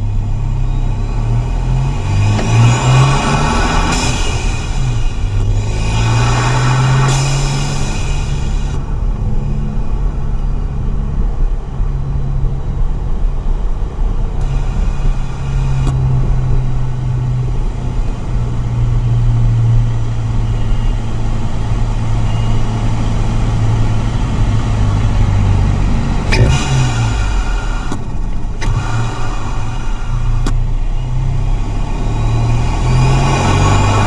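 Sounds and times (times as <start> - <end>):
car engine cruising: 0.0 - 34.0
road rumble: 0.0 - 34.0.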